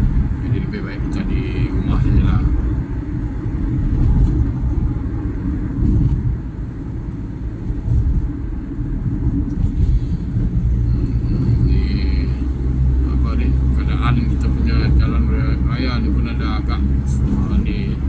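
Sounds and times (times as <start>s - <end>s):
road vehicle rumbling: 0.0s - 18.0s.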